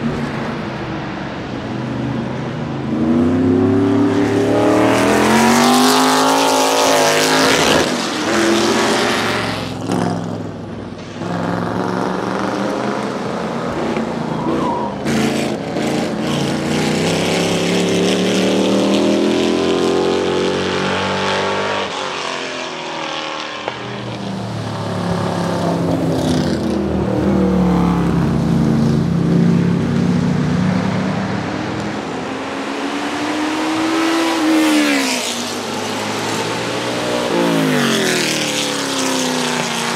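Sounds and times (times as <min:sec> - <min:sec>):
race car engine passing: 0:00.0 - 0:39.9.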